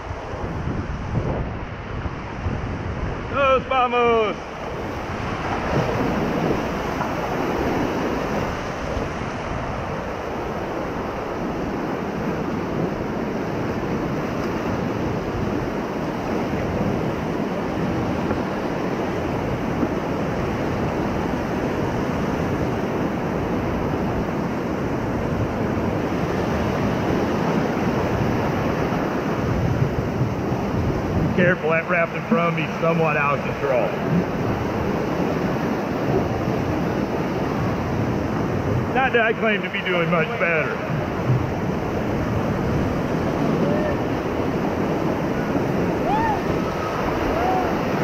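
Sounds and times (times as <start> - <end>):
whitewater rapids rushing: 0.0 - 48.0.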